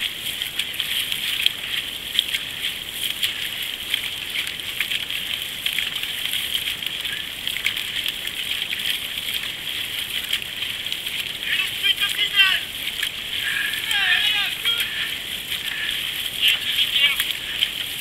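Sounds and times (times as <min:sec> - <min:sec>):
paddles splashing: 0:00.0 - 0:18.0
water rushing along hull: 0:00.0 - 0:18.0.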